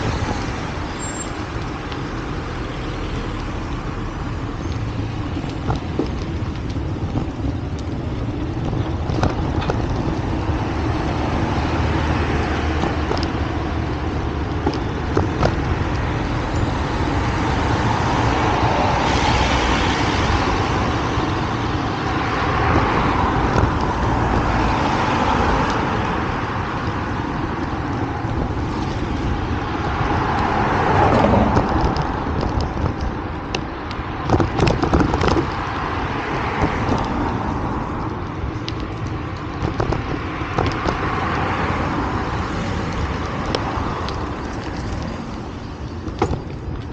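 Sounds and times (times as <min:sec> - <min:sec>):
cars passing: 0:00.0 - 0:46.9
low traffic rumble: 0:00.0 - 0:46.9.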